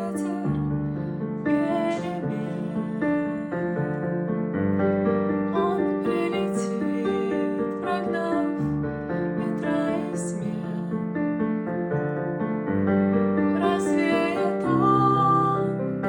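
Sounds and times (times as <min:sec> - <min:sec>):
gentle keyboard music: 0:00.0 - 0:16.0.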